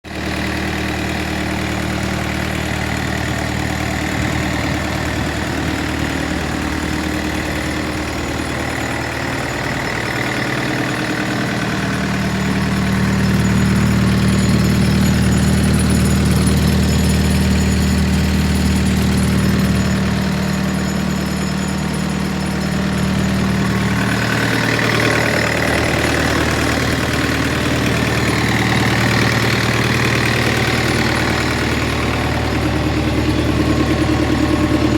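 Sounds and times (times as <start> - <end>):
mini excavator diesel engine running: 0.0 - 34.9.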